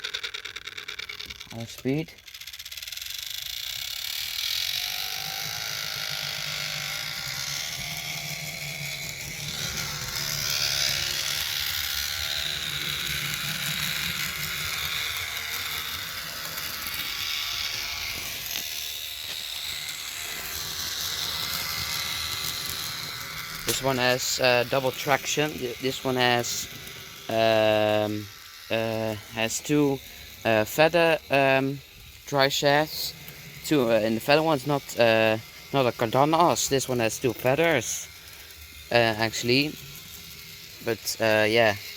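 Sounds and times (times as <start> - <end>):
model locomotive motor whirring: 0.0 - 41.9.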